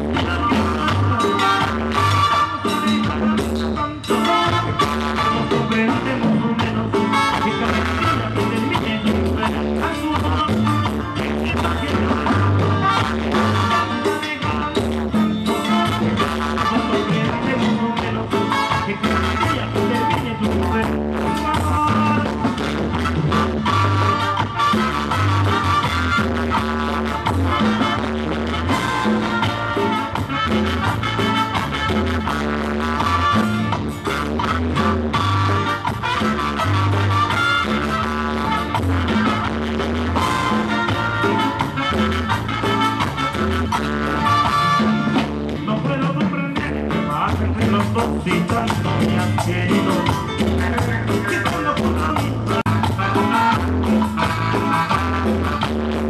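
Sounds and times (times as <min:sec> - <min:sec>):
live band playing dance music: 0:00.0 - 0:56.0.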